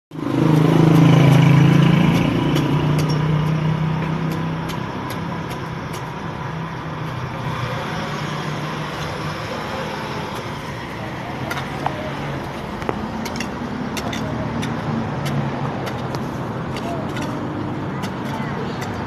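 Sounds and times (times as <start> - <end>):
vehicle engine running: 0.1 - 19.0.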